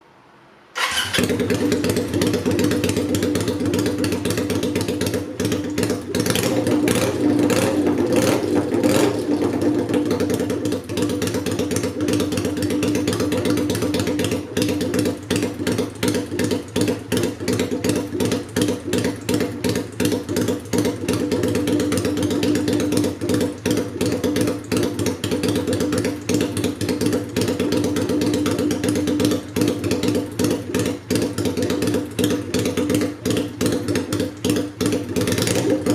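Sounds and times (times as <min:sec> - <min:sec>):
motorcycle idling with loud exhaust: 0:00.8 - 0:35.9.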